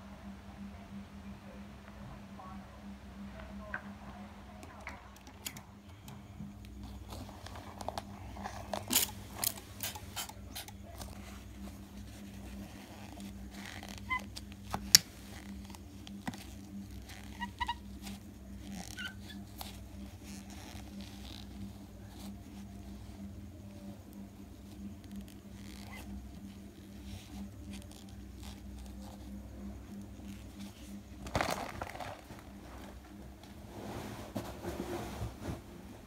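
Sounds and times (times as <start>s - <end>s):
steady low hum: 0.0s - 36.0s
tissue rubbing on glass mirror: 6.8s - 36.0s.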